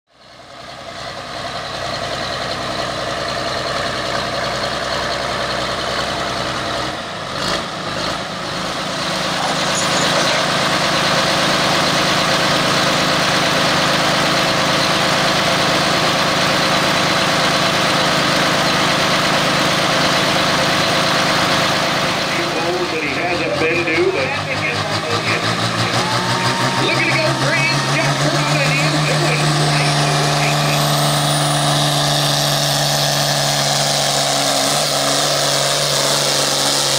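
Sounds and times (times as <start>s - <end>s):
tractor engine idling: 0.1s - 36.9s.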